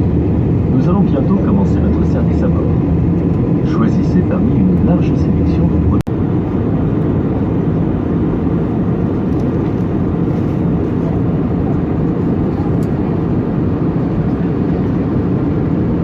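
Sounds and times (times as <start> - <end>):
aircraft cabin engine roar: 0.0 - 16.0.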